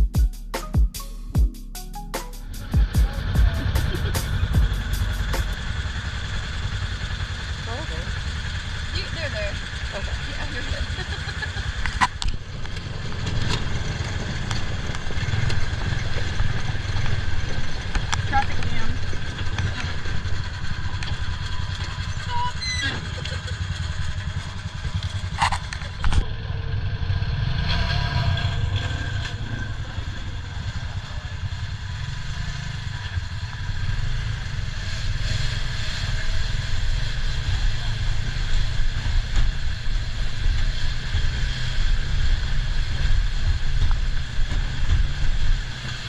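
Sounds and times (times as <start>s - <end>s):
buggy engine rumble: 0.0s - 46.0s.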